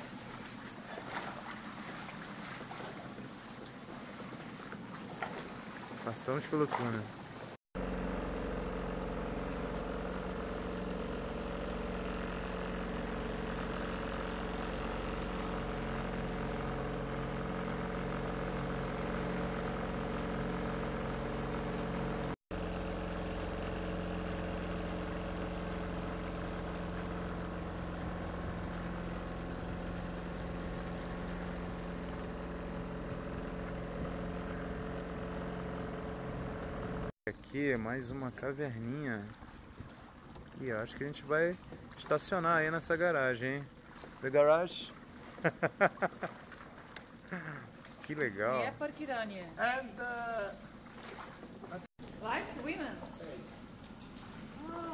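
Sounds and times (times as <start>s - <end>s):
boat motor running steadily: 0.0s - 54.9s.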